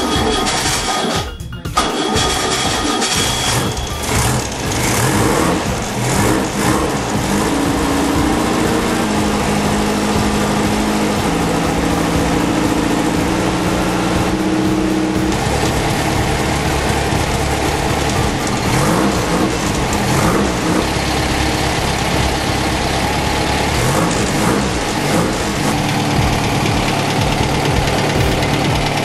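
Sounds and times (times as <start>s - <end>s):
engine idling and revving: 0.0s - 29.0s.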